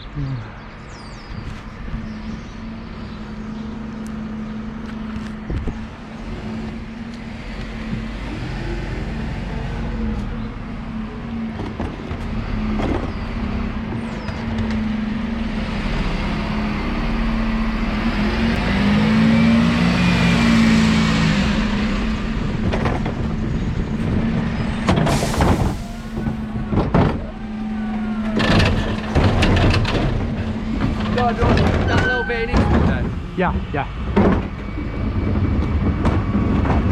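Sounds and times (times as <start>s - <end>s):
road noise: 0.0s - 36.9s.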